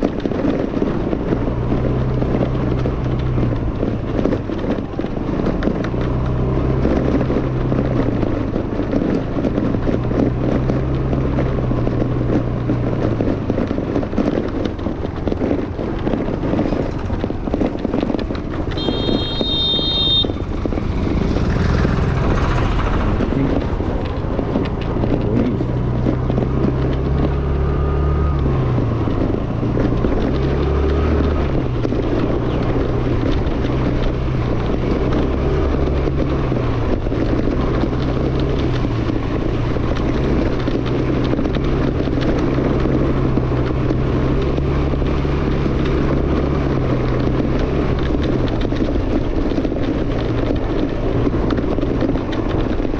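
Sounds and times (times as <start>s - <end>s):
wind rumbling on microphone: 0.0s - 52.9s
scooter engine revving: 0.7s - 52.9s.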